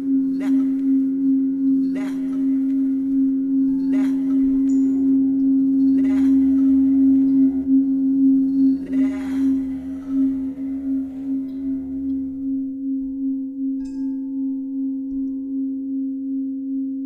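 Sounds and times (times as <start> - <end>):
ringing drone with overtones: 0.0 - 17.0.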